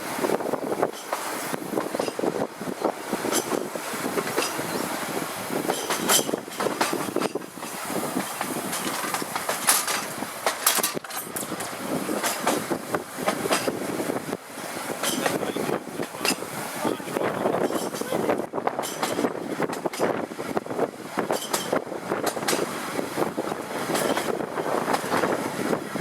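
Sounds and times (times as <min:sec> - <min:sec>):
tram rolling rumble: 0:00.0 - 0:26.0
wheels clicking over rail joints: 0:00.0 - 0:26.0.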